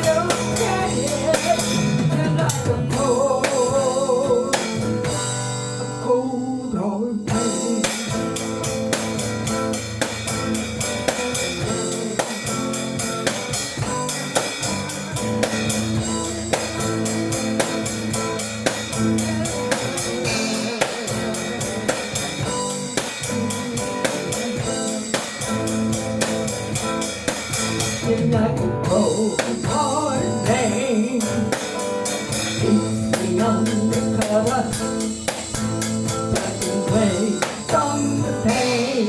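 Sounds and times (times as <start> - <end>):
drum kit beat: 0.0 - 6.4, 7.2 - 39.0
blues-rock guitar: 0.0 - 39.0.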